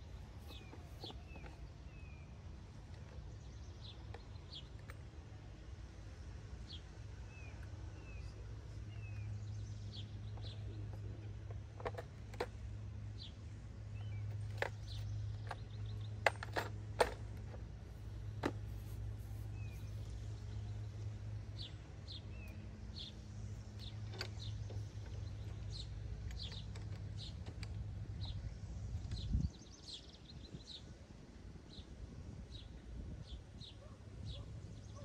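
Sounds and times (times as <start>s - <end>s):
birds chirping: 0.0s - 5.4s, 6.6s - 31.1s, 31.7s - 35.0s.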